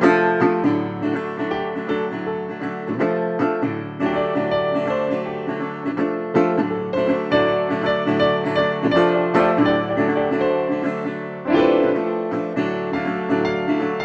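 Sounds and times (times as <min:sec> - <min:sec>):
plucked string instrument music: 0:00.0 - 0:14.0.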